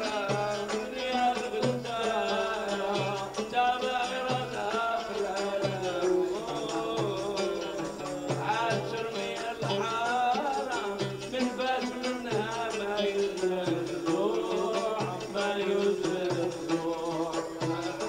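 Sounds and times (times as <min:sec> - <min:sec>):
hand drum beat: 0:00.0 - 0:18.0
man singing into a microphone: 0:00.0 - 0:18.0.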